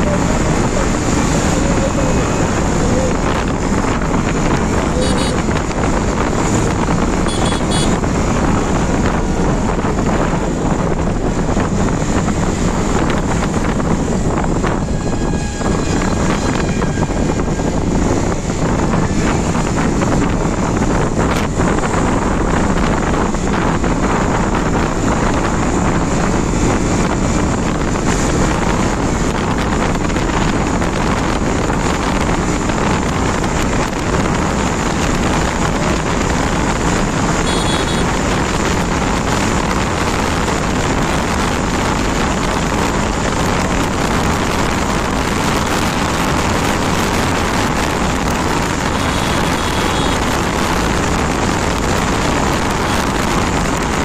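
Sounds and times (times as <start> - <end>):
motorcycle engine running hard: 0.0 - 54.0
wind rushing over microphone: 0.0 - 54.0.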